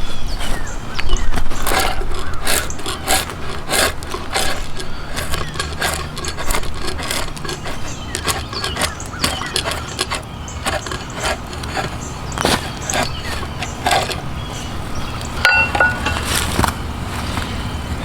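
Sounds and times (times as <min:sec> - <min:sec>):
hand tool strokes on wood: 0:01.3 - 0:17.4.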